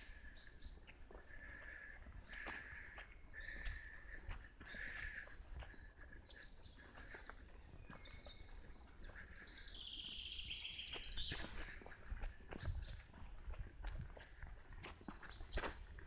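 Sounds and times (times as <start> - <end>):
songbirds singing: 0.0 - 14.4, 15.0 - 16.0.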